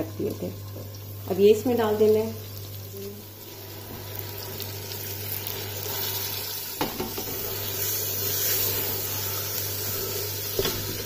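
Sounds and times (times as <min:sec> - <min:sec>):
sizzling in pressure cooker: 0:00.0 - 0:11.0.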